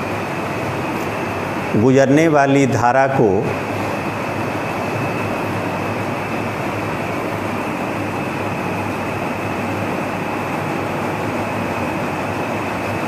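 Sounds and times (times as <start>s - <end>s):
fan air rush with hum: 0.0s - 13.0s.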